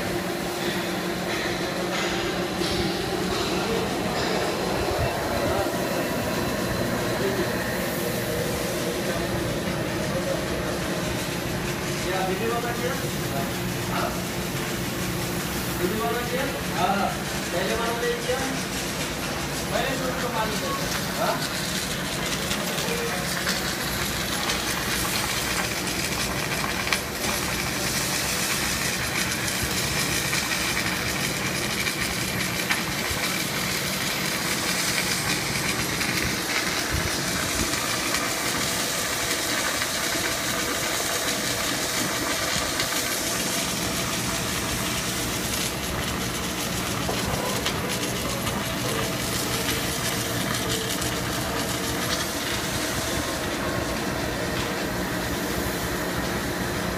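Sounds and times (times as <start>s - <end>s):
arc welder hissing and humming: 0.0s - 56.9s.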